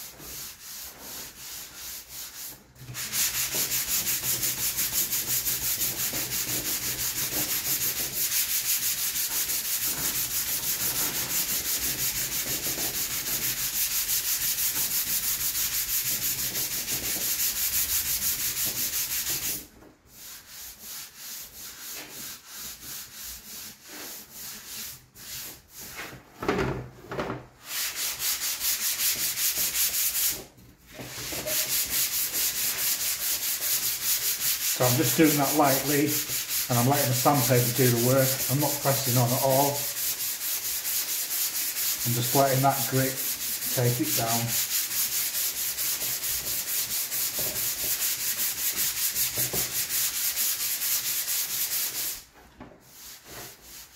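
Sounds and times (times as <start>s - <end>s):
sandpaper rubbing back and forth: 0.0s - 26.1s, 27.6s - 53.9s.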